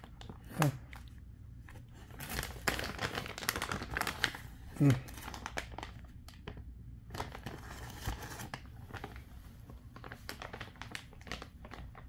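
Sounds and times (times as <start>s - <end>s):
plastic pouch crinkling: 1.7s - 12.0s.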